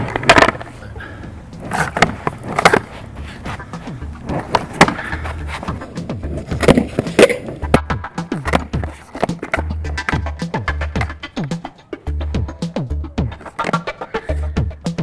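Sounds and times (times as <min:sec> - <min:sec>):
skateboard clacks: 0:00.0 - 0:15.0
skateboard wheels rolling: 0:00.0 - 0:15.0.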